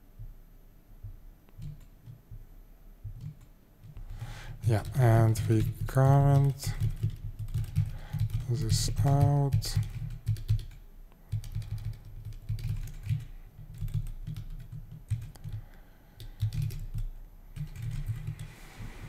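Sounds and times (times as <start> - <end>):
typing on computer keyboard: 1.5 - 2.2, 3.1 - 18.5.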